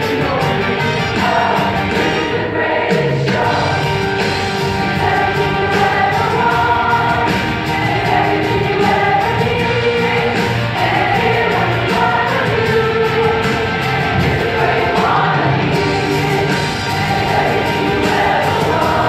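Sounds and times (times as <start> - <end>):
large chorus singing: 0.0 - 19.0.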